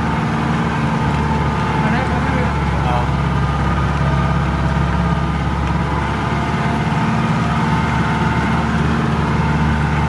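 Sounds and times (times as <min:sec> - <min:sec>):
jeep engine running: 0:00.0 - 0:10.0.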